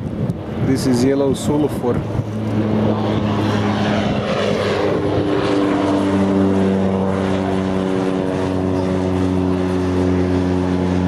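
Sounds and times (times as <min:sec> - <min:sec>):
propeller plane droning overhead: 0:00.0 - 0:11.0.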